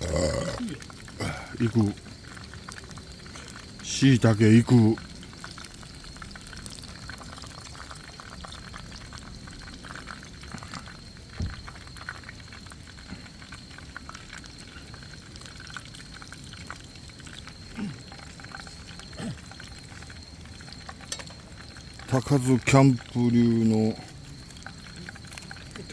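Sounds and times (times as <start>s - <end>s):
food frying in hot oil: 0.0s - 25.9s.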